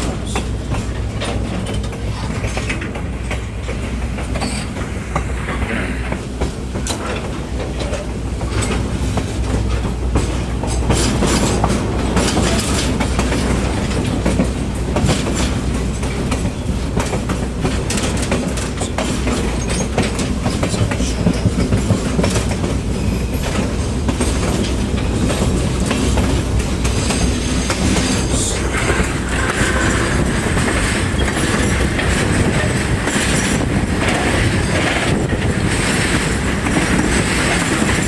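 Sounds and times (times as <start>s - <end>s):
clickety-clack of rail joints: 0.0s - 38.0s
train wheels rumbling on rails: 0.0s - 38.0s.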